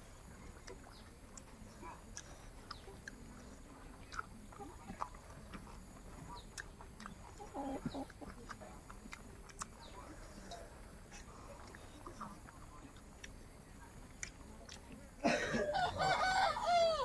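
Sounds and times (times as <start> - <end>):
wet chewing and lip smacks: 0.1 - 15.2
fingers working food clicks: 0.5 - 10.6, 11.6 - 15.1.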